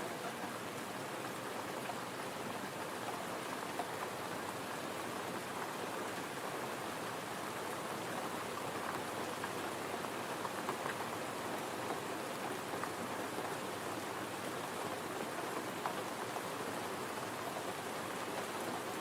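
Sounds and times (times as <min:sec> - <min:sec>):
gentle rain pattering: 0:00.0 - 0:19.0.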